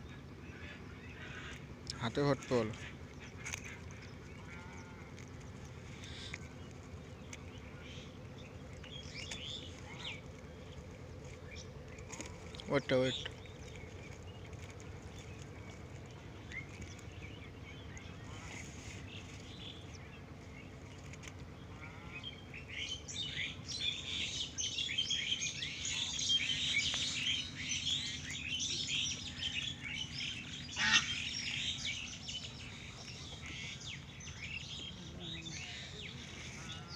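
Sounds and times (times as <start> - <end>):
flock of birds chirping: 0.0 - 36.9.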